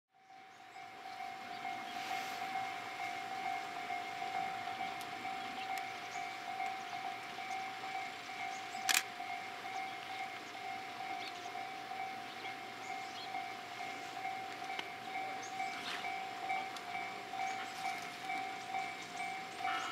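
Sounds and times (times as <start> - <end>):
level crossing warning bell: 0.2 - 19.9.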